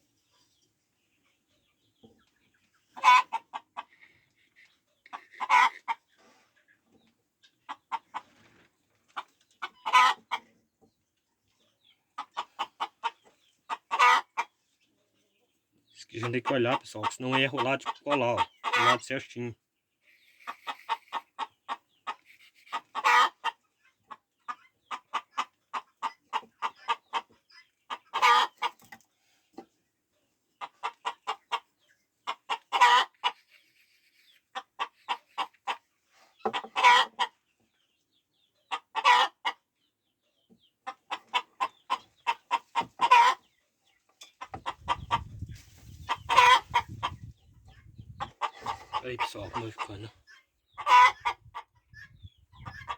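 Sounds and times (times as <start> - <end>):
hen clucking and cackling: 1.6 - 10.9, 11.6 - 14.7, 16.0 - 52.9.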